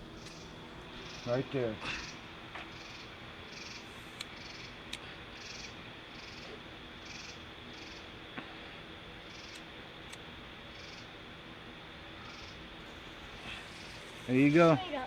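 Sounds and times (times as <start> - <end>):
high insect trill: 0.0 - 15.0
insects chirping: 0.0 - 15.0.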